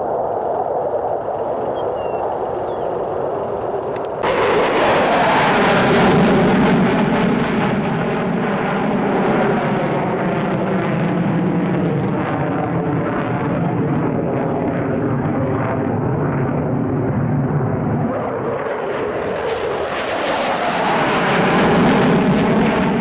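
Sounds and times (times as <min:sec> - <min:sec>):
fighter jet engines roaring: 0:00.0 - 0:23.0.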